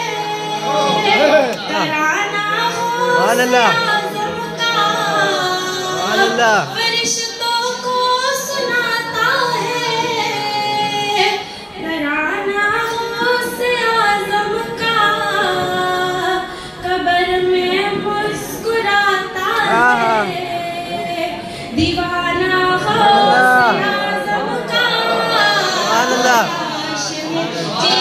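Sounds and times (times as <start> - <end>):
woman singing unaccompanied: 0.0 - 28.0.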